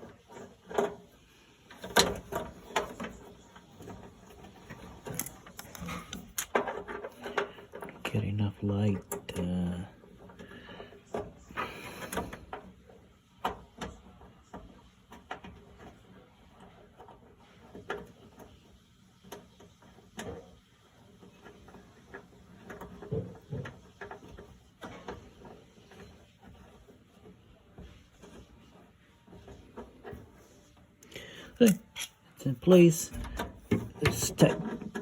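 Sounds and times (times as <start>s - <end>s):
dryer parts clicking and knocking: 0.0s - 35.0s.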